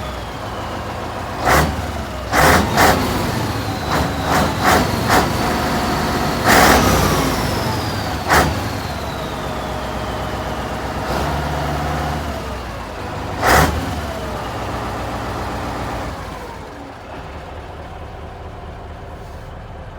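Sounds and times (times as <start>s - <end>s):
diesel truck engine running: 0.0s - 19.9s.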